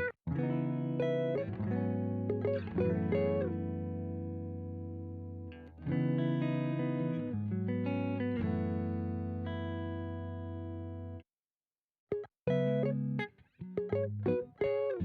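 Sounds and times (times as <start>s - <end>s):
guitar chords ringing: 0.0s - 11.2s, 12.1s - 15.0s.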